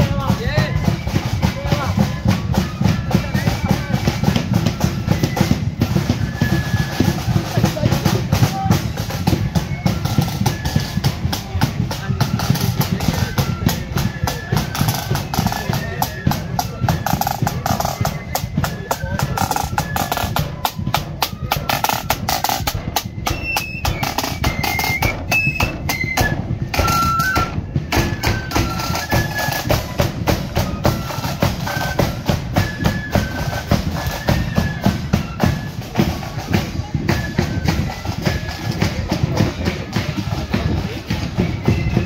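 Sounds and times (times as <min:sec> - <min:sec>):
flute melody: 0:00.0 - 0:42.0
rapid side drum strokes: 0:00.0 - 0:42.0.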